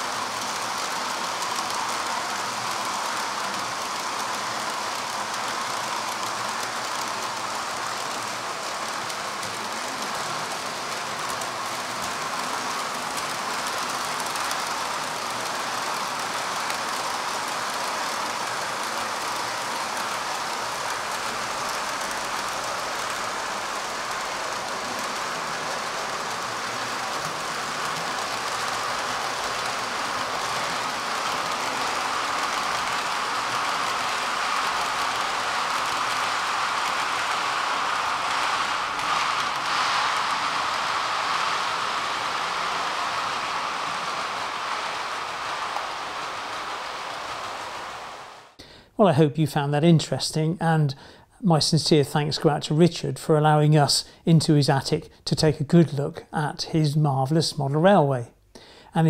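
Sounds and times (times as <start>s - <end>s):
model train wheels rolling on rails: 0.0s - 51.0s, 51.6s - 59.0s.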